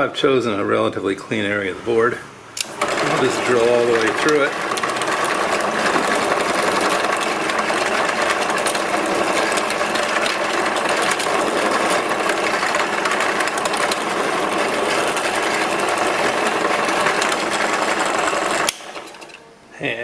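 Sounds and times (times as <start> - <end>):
drill bit cutting wood: 2.6 - 19.1
drill press motor drone: 2.6 - 19.4.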